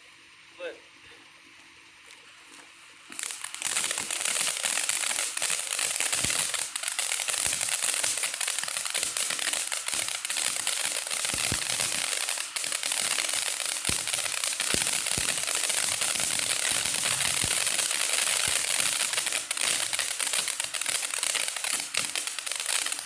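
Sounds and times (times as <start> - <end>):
firework fountain hissing and crackling: 0.0 - 23.0.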